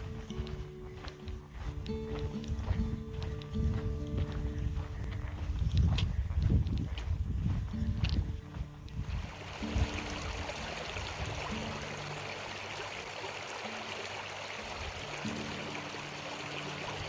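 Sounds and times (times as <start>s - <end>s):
soft music of low held notes: 0.0s - 17.0s
stream water running: 0.0s - 17.0s.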